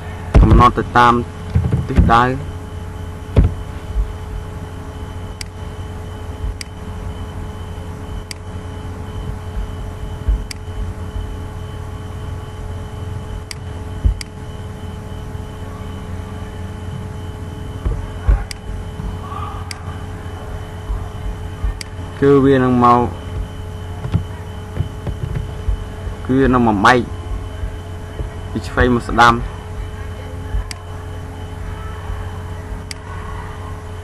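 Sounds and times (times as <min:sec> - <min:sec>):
microphone hum and hiss: 0:00.0 - 0:33.7.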